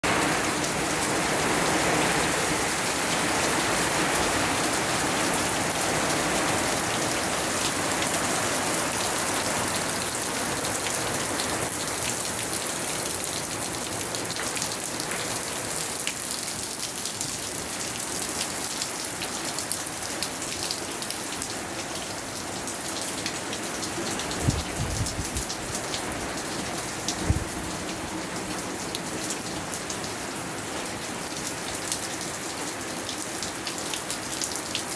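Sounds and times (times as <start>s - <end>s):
steady rain pattering: 0.0s - 34.9s.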